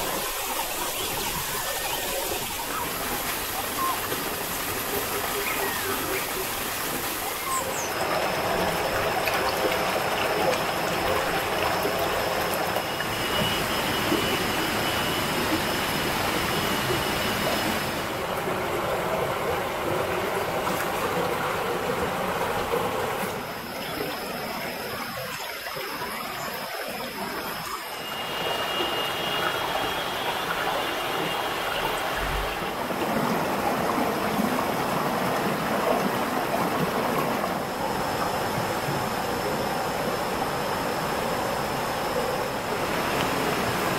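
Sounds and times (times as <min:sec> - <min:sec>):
stream running over rocks: 0:00.0 - 0:43.9.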